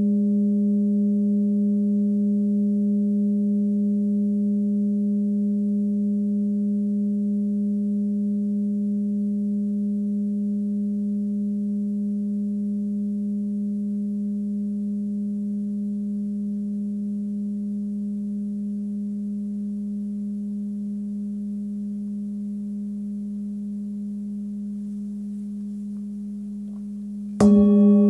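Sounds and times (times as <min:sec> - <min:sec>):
singing bowl ringing: 0:00.0 - 0:28.0.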